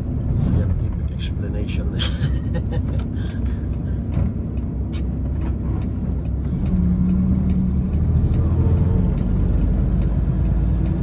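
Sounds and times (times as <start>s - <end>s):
engine drone: 0.0s - 11.0s
truck engine and road rumble: 0.0s - 11.0s.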